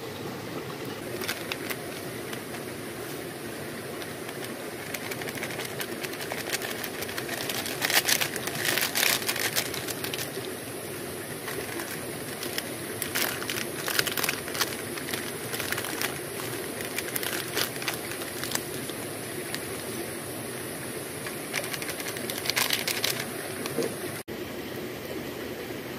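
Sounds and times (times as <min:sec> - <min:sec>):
river flowing: 0:00.0 - 0:25.9
plastic sachet crinkling: 0:01.0 - 0:20.1, 0:21.0 - 0:24.2.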